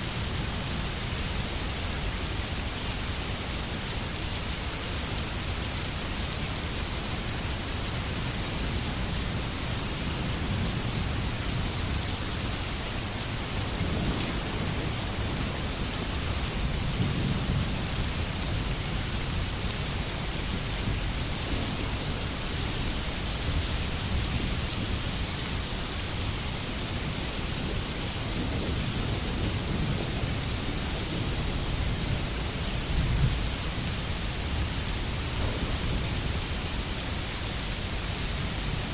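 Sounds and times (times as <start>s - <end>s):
rain falling on trees: 0.0s - 38.9s.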